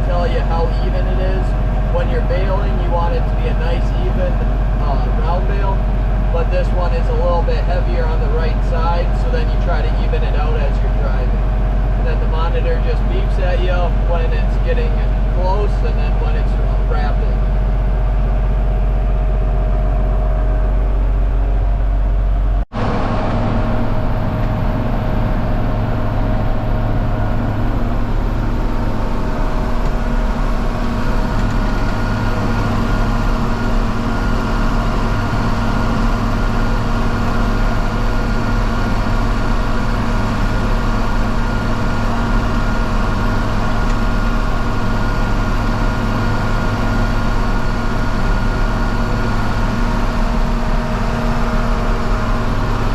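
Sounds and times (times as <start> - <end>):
busy baler machine noise: 0.0 - 52.9
tractor diesel engine running: 0.0 - 52.9.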